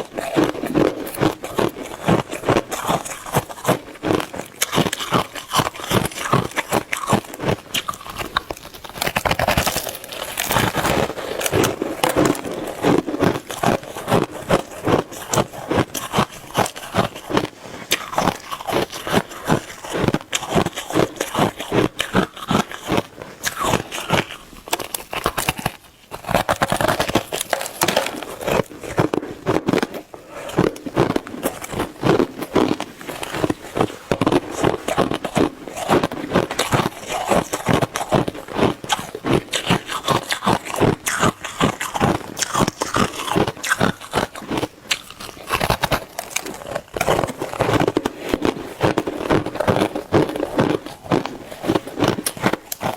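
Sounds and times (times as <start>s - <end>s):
chewing shaved ice: 0.0s - 52.9s.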